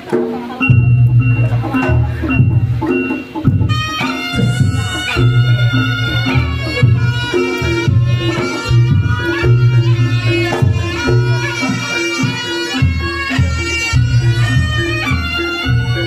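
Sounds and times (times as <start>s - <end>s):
drums and gongs: 0.0s - 16.0s
reedy shawm melody: 0.0s - 16.0s.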